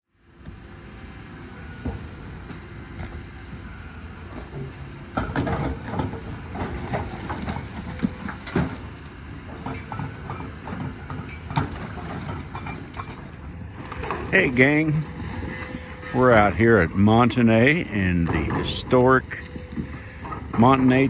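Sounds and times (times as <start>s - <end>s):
heavy machinery running: 0.2s - 21.0s.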